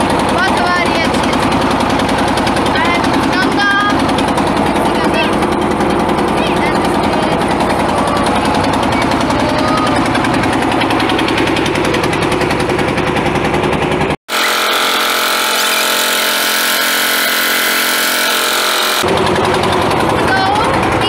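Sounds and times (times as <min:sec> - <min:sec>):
boat engine knocking: 0:00.0 - 0:21.0.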